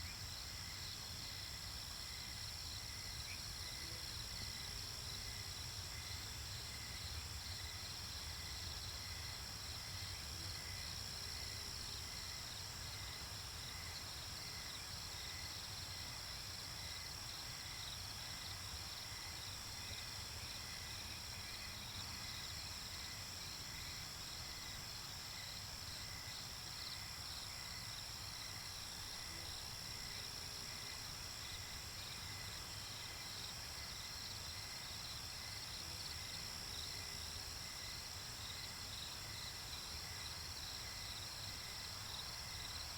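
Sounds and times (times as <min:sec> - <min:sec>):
crickets and insects chirping: 0:00.0 - 0:42.9.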